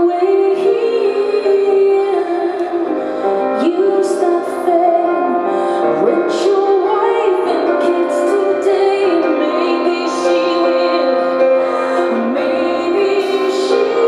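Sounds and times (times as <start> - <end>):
musical accompaniment: 0.0 - 14.0
woman singing: 0.0 - 14.0.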